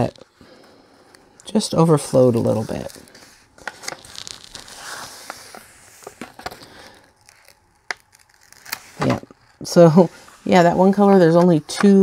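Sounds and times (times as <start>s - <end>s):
plastic film rustling and crinkling: 1.1s - 12.0s.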